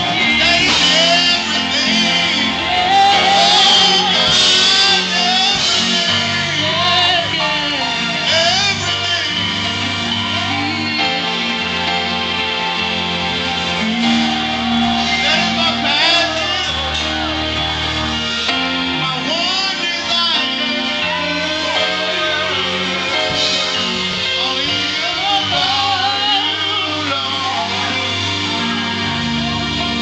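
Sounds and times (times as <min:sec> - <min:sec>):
guitar-led band: 0:00.0 - 0:30.0
people singing worship music: 0:00.0 - 0:30.0.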